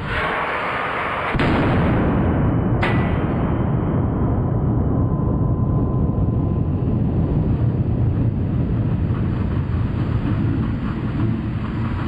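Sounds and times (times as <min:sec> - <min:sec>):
machinery low rumble: 0:01.3 - 0:12.0.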